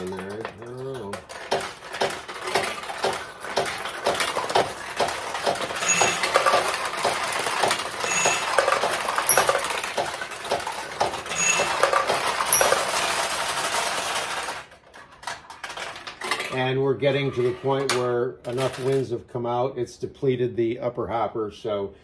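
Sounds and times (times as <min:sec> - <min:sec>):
balls rattling into tray: 0:00.0 - 0:19.2
steel balls clattering through pins: 0:00.0 - 0:19.2.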